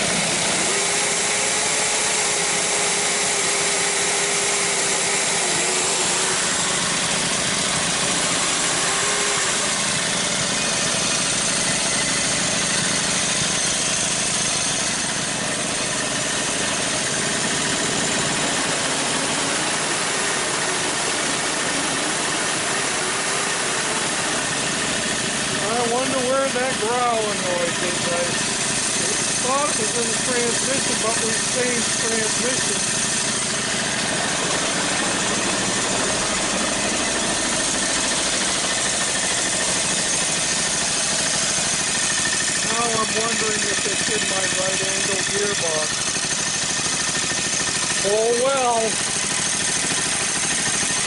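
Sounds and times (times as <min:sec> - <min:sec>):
motor whirring: 0:00.0 - 0:15.2, 0:16.4 - 0:51.0.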